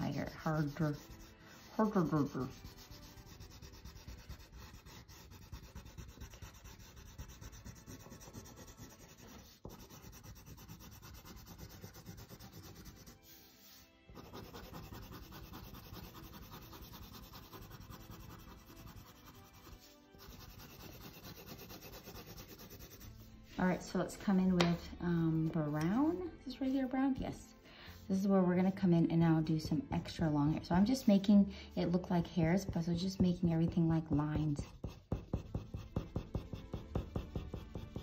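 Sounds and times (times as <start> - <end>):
pencil scratching on paper: 0.0 - 23.9, 30.8 - 38.0.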